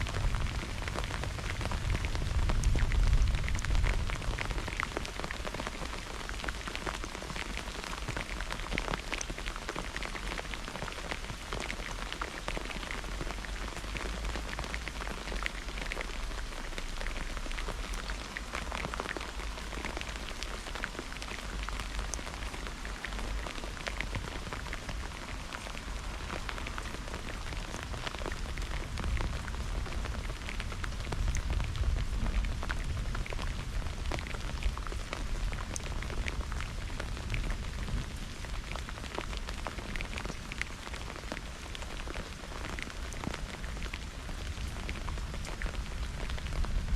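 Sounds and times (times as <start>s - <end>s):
raindrops ticking: 0.0s - 46.9s
steady rain falling: 0.0s - 46.9s.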